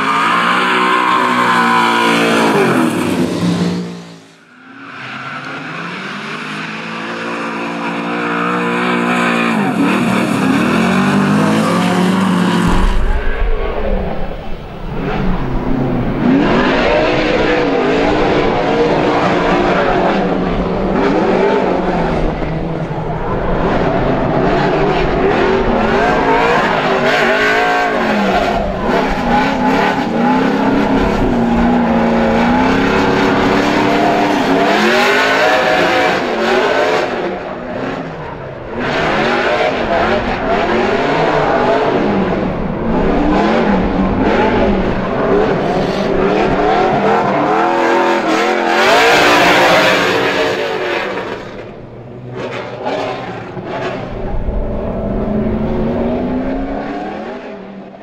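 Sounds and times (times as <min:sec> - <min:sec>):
car engine revving: 0:05.4 - 0:58.0.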